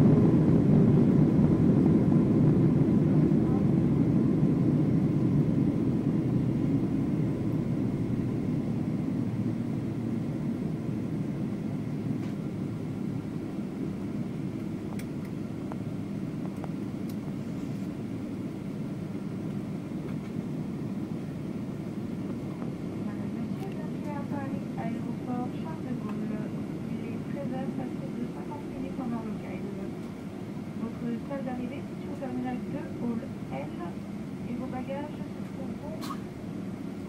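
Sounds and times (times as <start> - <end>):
airliner engines rumbling: 0.0 - 37.0.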